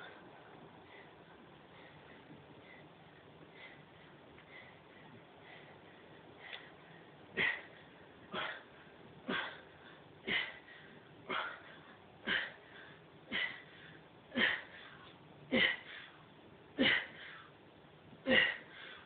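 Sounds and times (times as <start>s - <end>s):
man breathing hard: 0.0s - 16.2s, 18.3s - 19.0s.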